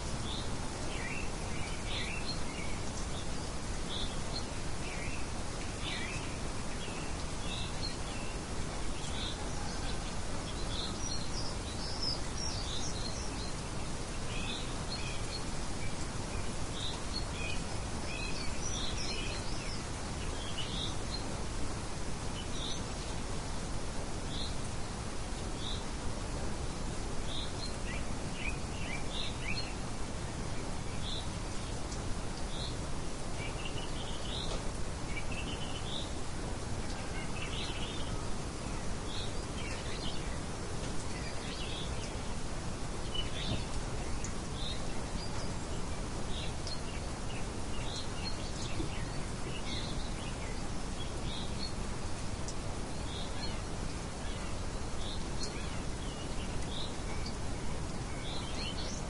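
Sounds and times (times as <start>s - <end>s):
small birds chirping: 0.0s - 59.0s
steady wind: 0.0s - 59.0s.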